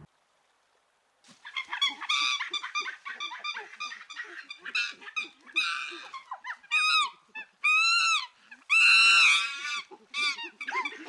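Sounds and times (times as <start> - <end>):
monkey calling: 1.3 - 11.0.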